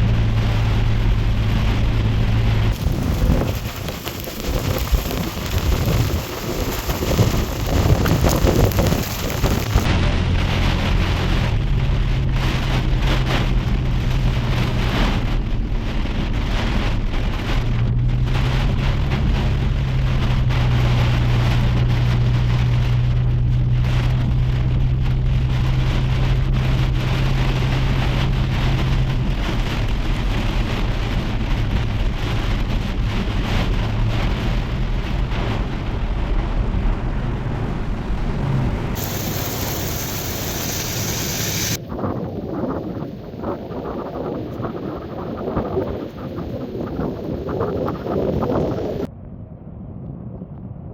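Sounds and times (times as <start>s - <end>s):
heavy rain: 0.0s - 49.1s
low engine hum: 0.0s - 50.9s.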